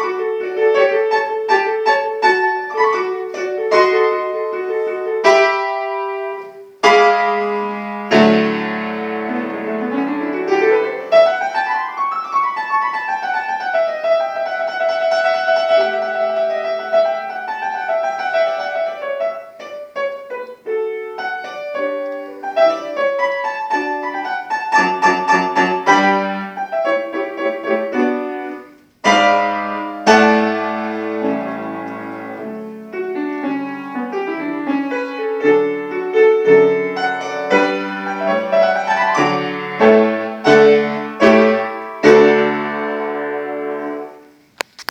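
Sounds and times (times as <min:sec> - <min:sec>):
classical solo piano: 0:00.0 - 0:44.9.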